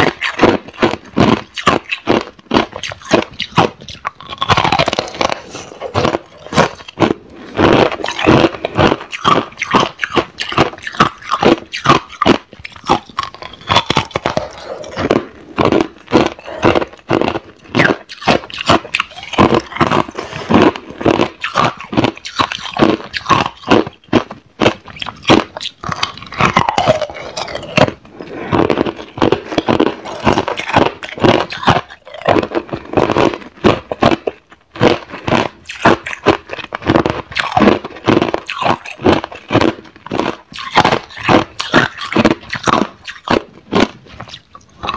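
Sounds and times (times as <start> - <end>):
ice crunching between teeth: 0.0 - 44.9.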